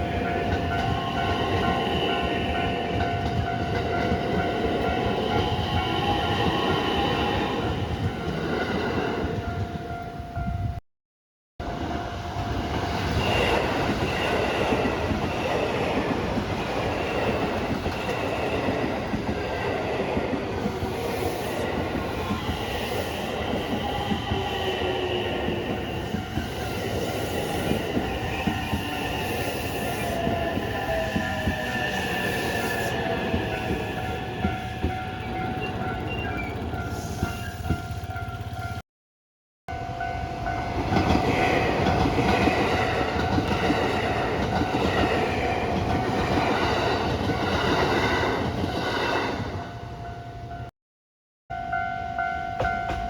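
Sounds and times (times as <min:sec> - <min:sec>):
train wheel and rail noise: 0:00.0 - 0:10.8, 0:11.6 - 0:38.8, 0:39.7 - 0:50.7, 0:51.5 - 0:53.0.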